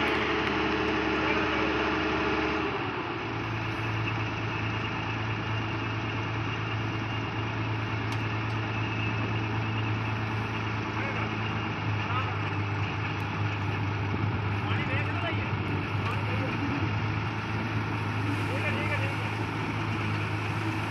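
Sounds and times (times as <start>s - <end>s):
combine harvester machinery drone: 0.0s - 20.9s.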